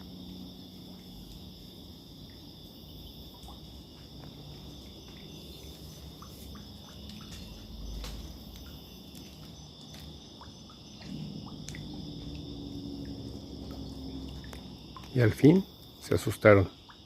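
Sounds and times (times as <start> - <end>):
crickets trilling: 0.0 - 17.0
frogs chirping and clicking: 0.0 - 17.0.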